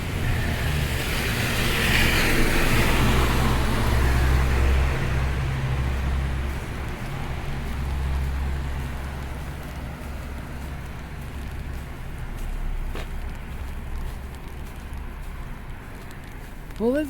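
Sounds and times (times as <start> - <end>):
low engine rumble: 0.0 - 17.0
vehicle passing with tyre hiss: 0.0 - 17.0.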